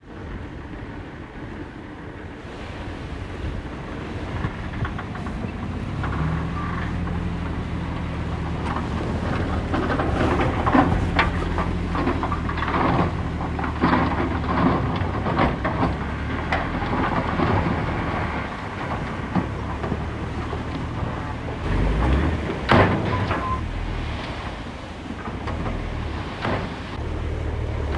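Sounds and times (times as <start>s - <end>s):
diesel engine running: 0.0s - 27.9s
machinery clanking and rattling: 3.8s - 27.9s.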